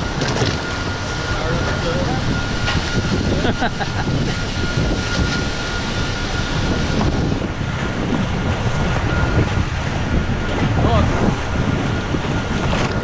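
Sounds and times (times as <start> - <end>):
choppy water washing: 0.0 - 13.0
wind rumbling on microphone: 0.0 - 13.0.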